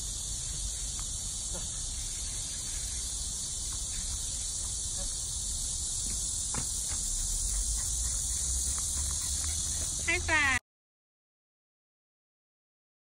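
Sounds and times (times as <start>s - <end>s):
insects buzzing and trilling: 0.0s - 10.6s.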